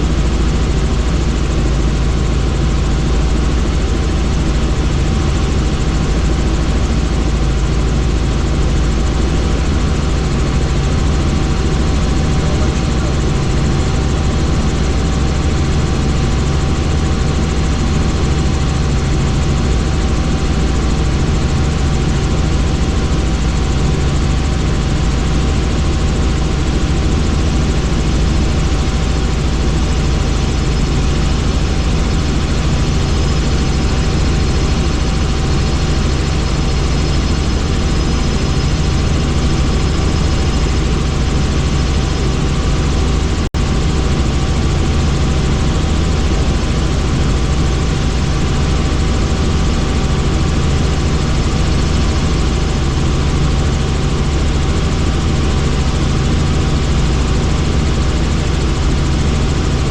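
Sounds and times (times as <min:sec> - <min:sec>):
constant engine whine: 0:00.0 - 0:59.9
helicopter rotor and engine drone: 0:00.0 - 0:59.9.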